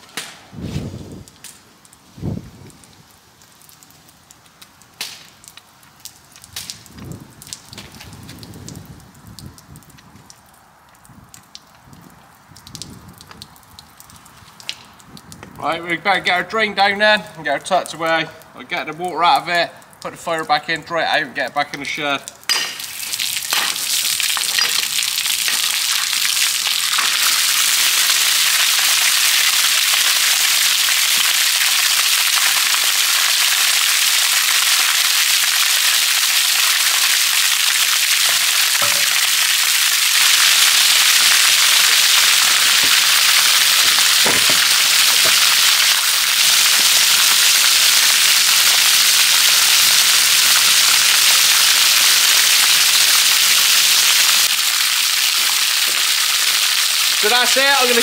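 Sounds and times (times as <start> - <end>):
water gushing and splashing on concrete: 0.0 - 58.0.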